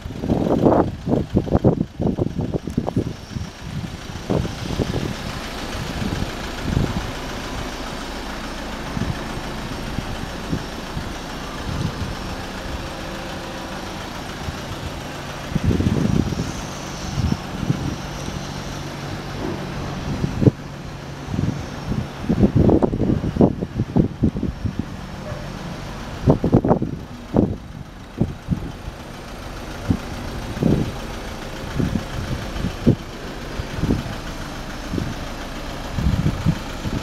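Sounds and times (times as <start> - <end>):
diesel engine idling: 0.0 - 37.0
wind buffeting microphone: 0.0 - 37.0.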